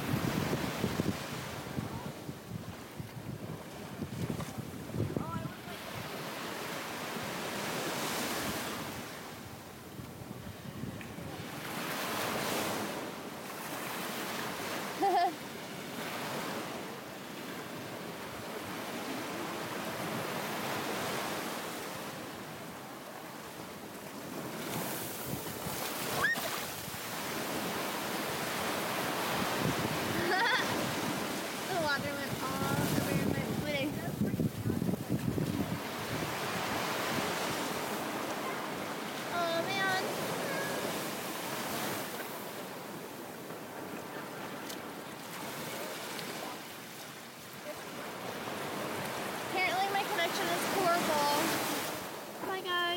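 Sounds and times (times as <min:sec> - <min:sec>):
ocean surf breaking on sand: 0:00.0 - 0:52.9.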